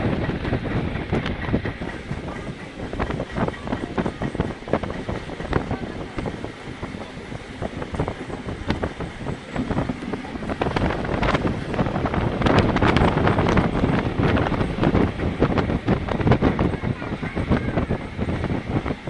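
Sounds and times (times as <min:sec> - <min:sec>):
passenger train running: 0:00.0 - 0:19.0
wind buffeting microphone: 0:00.0 - 0:19.0.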